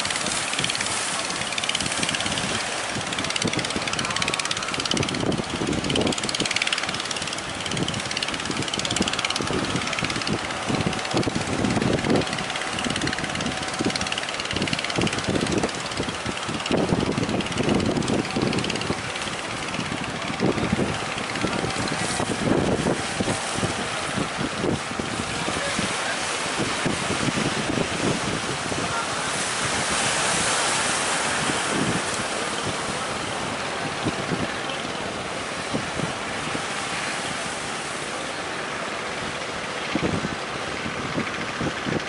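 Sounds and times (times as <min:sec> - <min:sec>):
boat engines running: 0:00.0 - 0:42.0
surf breaking: 0:00.0 - 0:42.0
wind buffeting microphone: 0:00.0 - 0:42.0.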